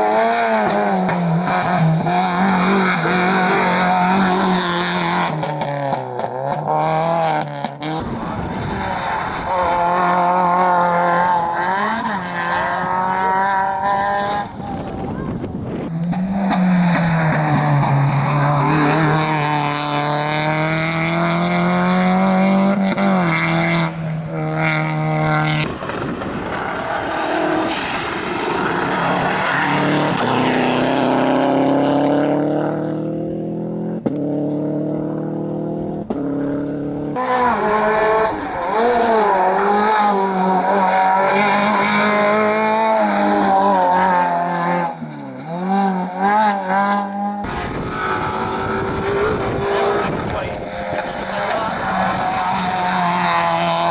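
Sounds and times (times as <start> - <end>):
rally car engines at full throttle: 0.0 - 53.9.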